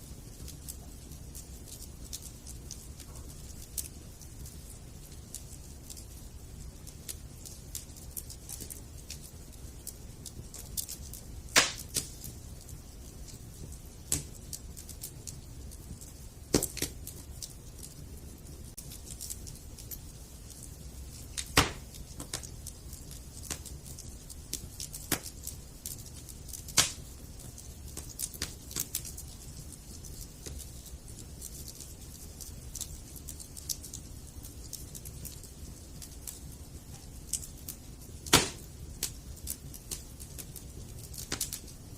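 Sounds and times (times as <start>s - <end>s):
campfire crackling and popping: 0.0s - 41.9s
low rumble of fire: 0.0s - 41.9s.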